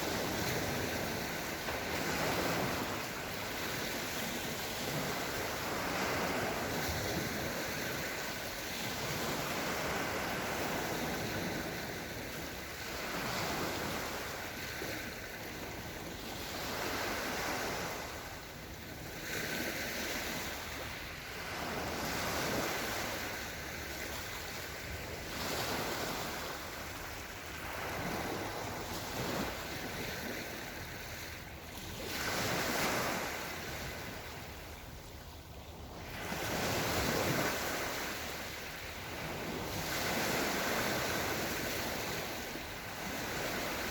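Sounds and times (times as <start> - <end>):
small waves washing onto shore: 0.0 - 43.9.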